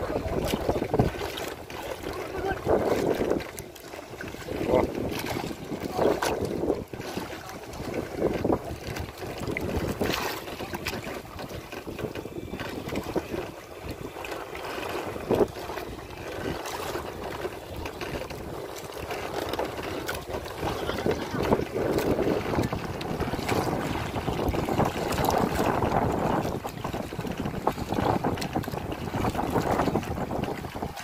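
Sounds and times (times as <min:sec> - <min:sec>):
choppy water around boats: 0:00.0 - 0:31.0
wind buffeting microphone: 0:00.0 - 0:31.0.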